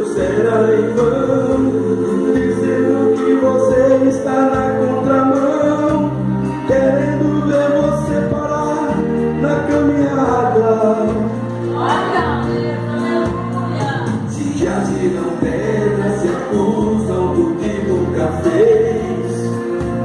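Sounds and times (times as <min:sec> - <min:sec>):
bass line: 0:00.0 - 0:20.0
gospel singing: 0:00.0 - 0:20.0
keyboard chords: 0:00.0 - 0:20.0.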